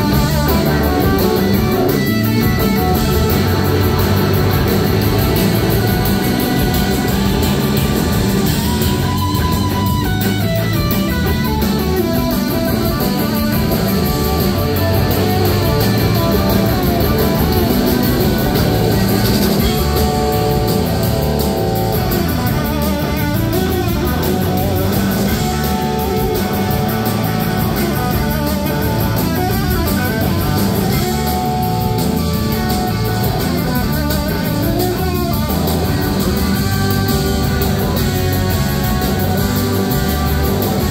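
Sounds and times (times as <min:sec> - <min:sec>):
amplified electric guitar: 0:00.0 - 0:40.9
live rock band playing: 0:00.0 - 0:40.9.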